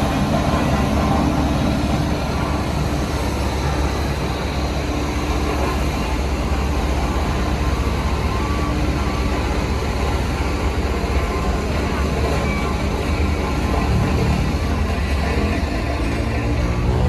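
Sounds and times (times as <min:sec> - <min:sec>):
diesel machinery rumbling: 0:00.0 - 0:17.0.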